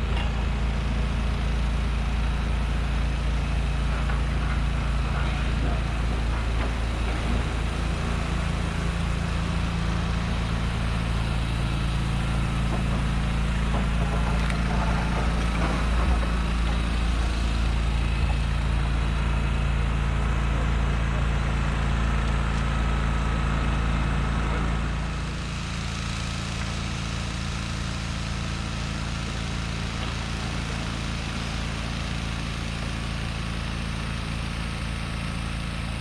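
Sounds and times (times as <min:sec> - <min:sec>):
large engine humming: 0:00.0 - 0:36.0.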